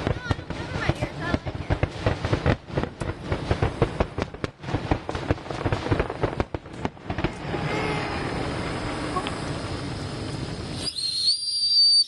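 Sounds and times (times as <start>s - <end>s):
fireworks crackling and banging: 0.0s - 12.0s
fireworks hiss and whistling: 0.0s - 12.0s.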